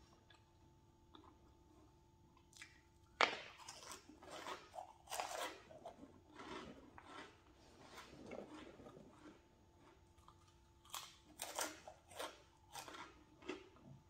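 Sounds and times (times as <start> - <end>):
crisp chewing crunches: 2.4 - 14.0
chips crunching: 2.5 - 13.8.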